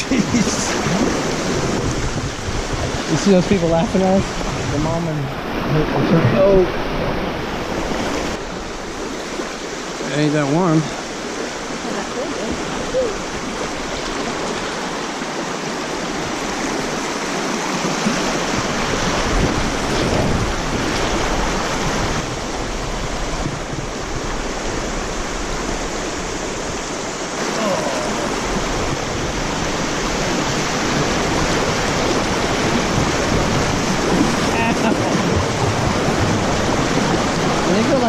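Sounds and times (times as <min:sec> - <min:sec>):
rushing whitewater rapids: 0:00.0 - 0:38.0.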